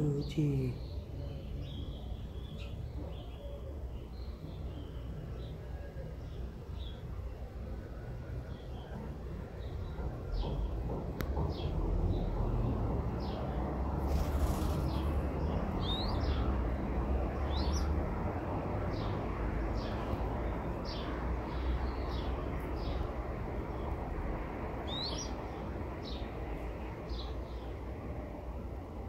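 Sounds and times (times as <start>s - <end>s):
birds chirping: 0.0s - 24.1s, 24.7s - 27.8s.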